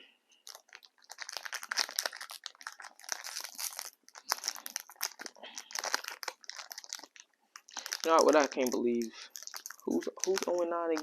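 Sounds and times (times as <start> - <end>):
wrapper tearing and crinkling: 0.4 - 11.0.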